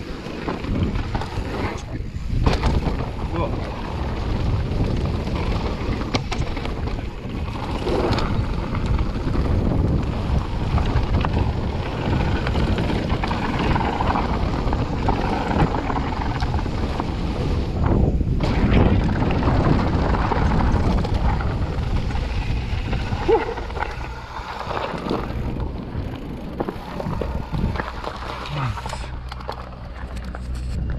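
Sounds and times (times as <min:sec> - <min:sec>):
bike rumble and rattle: 0:00.0 - 0:30.9
wind buffeting microphone: 0:00.0 - 0:30.9.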